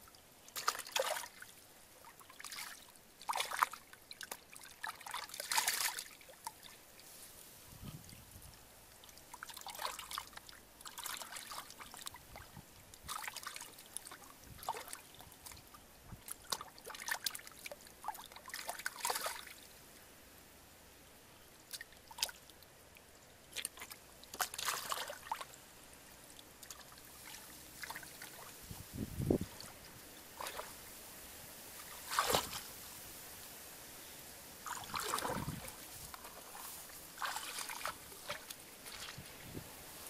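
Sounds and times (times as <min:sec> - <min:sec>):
muddy water splashing: 0:00.0 - 0:06.8, 0:08.9 - 0:19.7, 0:21.7 - 0:22.5, 0:23.5 - 0:31.0, 0:31.7 - 0:33.2, 0:34.6 - 0:40.0.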